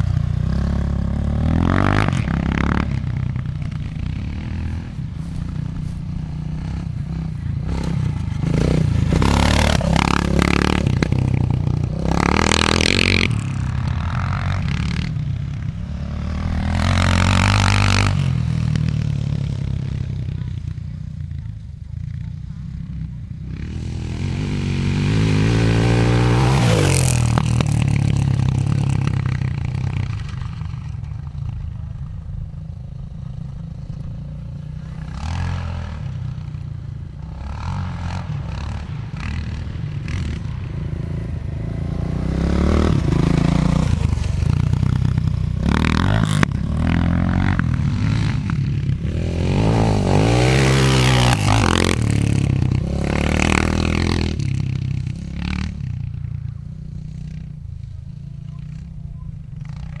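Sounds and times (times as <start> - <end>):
dirt bike engine revving: 0.0 - 20.5, 23.5 - 31.6, 33.2 - 57.6.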